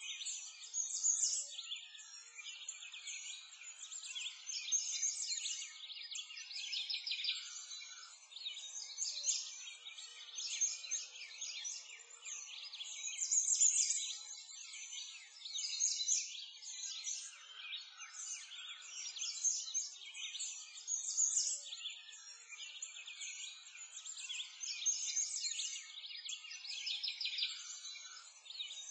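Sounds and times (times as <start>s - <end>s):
small birds chirping and singing: 0.0s - 28.9s.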